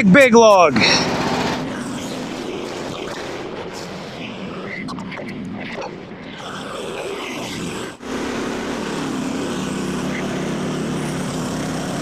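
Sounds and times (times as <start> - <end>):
sawmill engine running: 0.0 - 5.2, 5.8 - 12.0.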